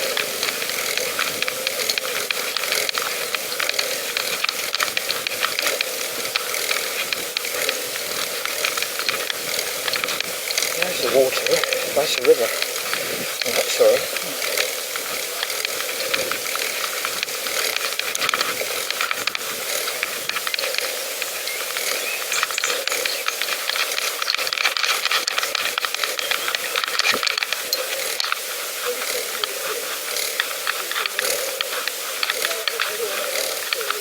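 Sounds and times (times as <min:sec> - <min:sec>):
bicycle tyres hissing: 0:00.0 - 0:34.0
chain and freewheel ticking: 0:00.0 - 0:34.0.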